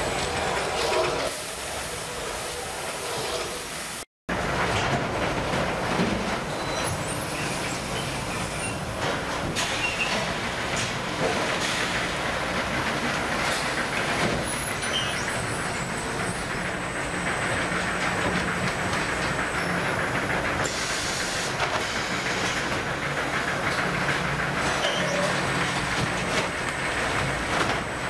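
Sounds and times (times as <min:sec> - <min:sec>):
palletizing machinery din: 0:04.3 - 0:28.0.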